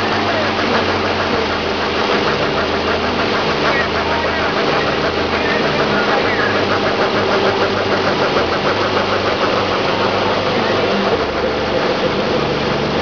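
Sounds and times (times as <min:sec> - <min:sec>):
truck engine running hard: 0:00.0 - 0:13.0
tyres spinning on pavement: 0:00.0 - 0:13.0.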